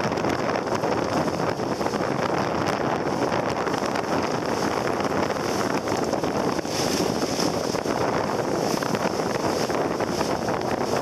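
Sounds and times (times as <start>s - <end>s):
choppy sea water rushing: 0.0s - 11.0s
wind buffeting microphone: 0.0s - 11.0s.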